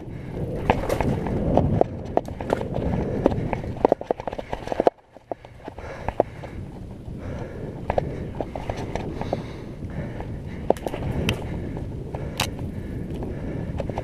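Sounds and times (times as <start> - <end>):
bike rattling over bumps: 0.0 - 14.0
bike tyres rumbling on dirt: 0.0 - 14.0.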